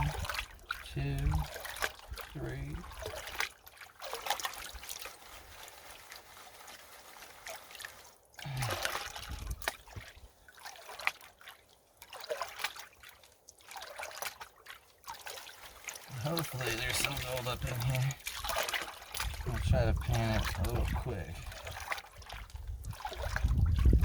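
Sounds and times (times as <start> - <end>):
water sloshing in a gold pan: 0.0 - 24.0.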